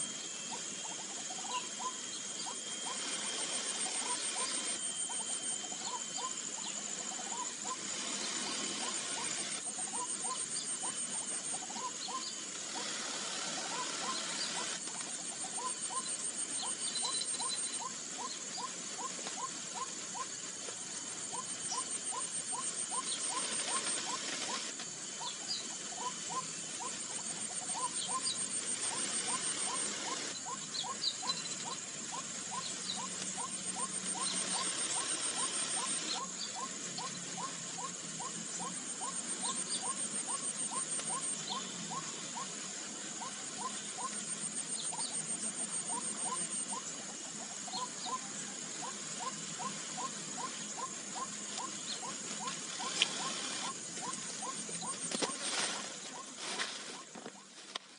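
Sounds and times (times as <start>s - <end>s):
high insect drone: 0.0s - 57.9s.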